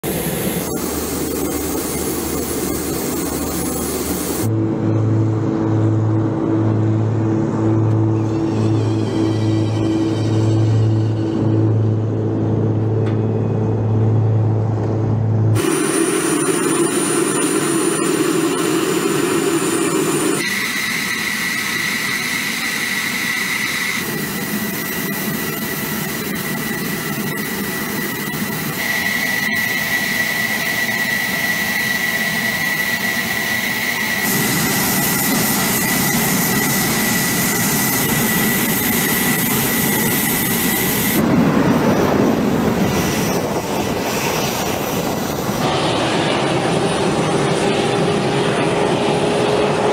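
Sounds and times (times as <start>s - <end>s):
jet engine idling: 0.0s - 49.9s.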